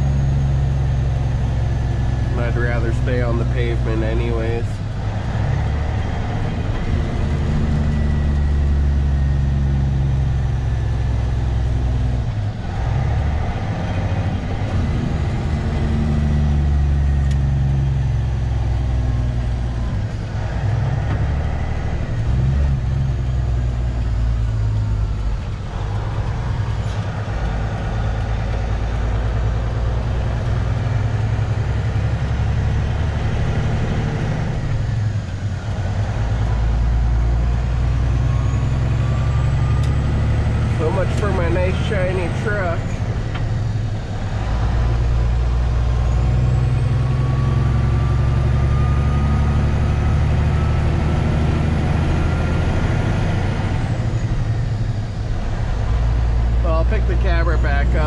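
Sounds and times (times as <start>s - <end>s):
diesel truck engine drone: 0.0s - 58.0s.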